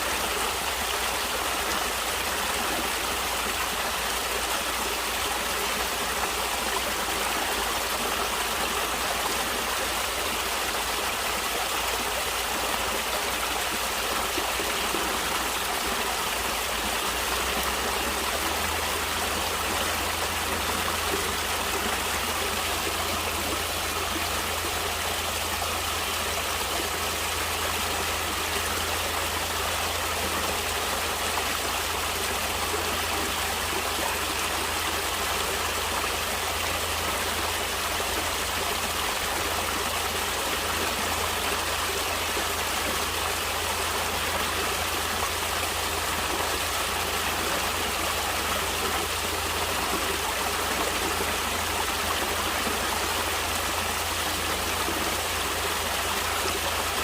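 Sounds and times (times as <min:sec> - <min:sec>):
water flowing in a stream: 0:00.0 - 0:57.0.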